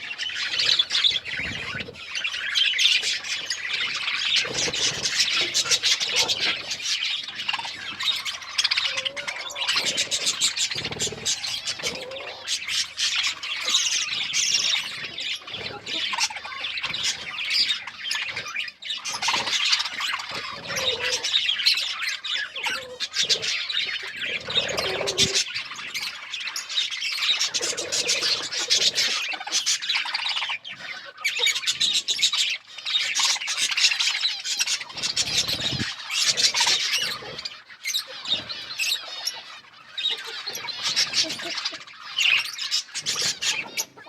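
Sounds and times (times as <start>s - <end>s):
budgerigars chattering and chirping: 0.0s - 44.0s.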